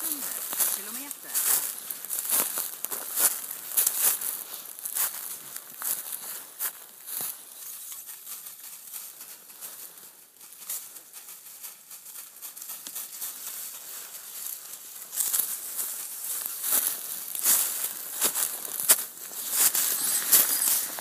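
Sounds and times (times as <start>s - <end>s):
footsteps crunching dry leaves: 0.0s - 21.0s.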